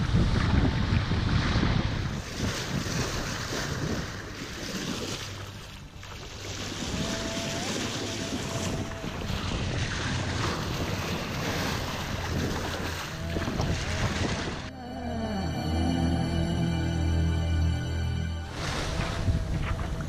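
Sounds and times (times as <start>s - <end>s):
wind buffeting microphone: 0.0s - 14.7s, 18.6s - 20.0s
water rushing along hull: 0.0s - 20.0s.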